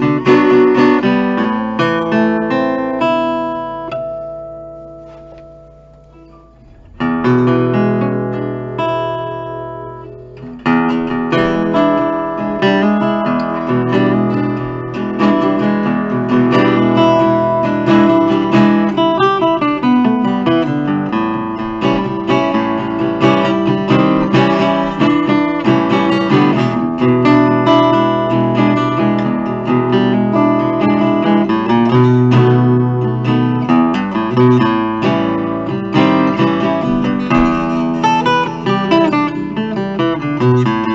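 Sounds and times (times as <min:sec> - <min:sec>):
acoustic guitar picked: 0:00.0 - 0:40.9.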